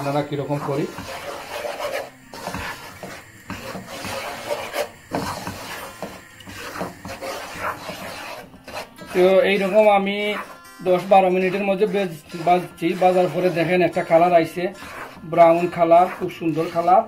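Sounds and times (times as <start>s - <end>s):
flour scraped in frying pan: 0.0s - 17.0s.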